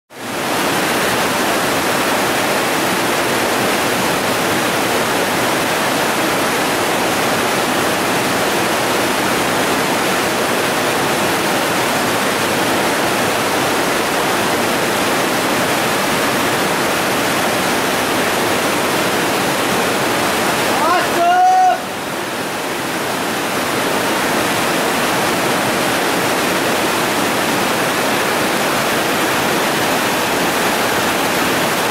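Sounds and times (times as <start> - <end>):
river rapids rushing: 0.2 - 31.9.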